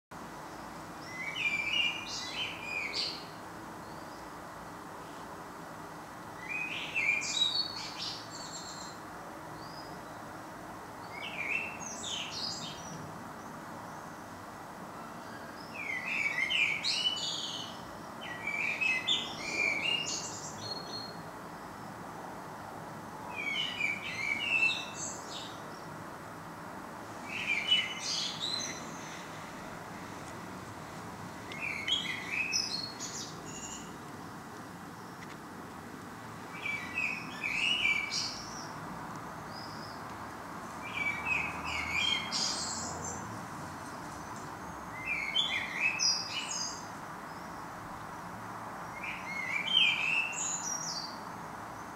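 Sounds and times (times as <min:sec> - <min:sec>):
songbird chirping: 0:00.2 - 0:05.4, 0:06.3 - 0:51.9
low background hiss: 0:00.2 - 0:51.9.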